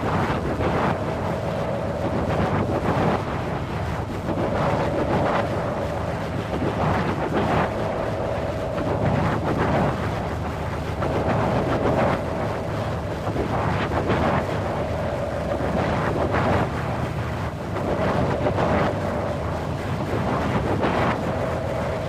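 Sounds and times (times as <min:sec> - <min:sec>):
gusting wind: 0:00.0 - 0:22.0.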